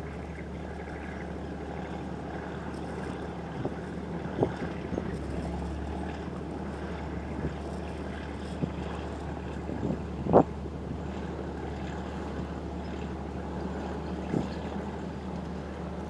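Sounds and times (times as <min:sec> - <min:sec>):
excavator low drone: 0:00.0 - 0:16.0.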